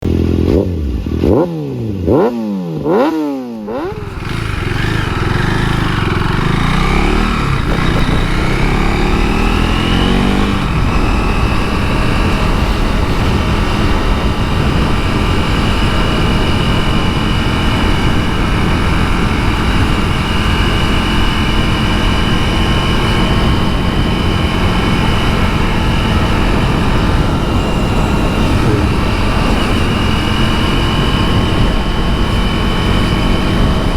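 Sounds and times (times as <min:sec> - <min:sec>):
motorcycle engine accelerating: 0:00.0 - 0:33.9
wind rush on microphone: 0:03.7 - 0:33.9.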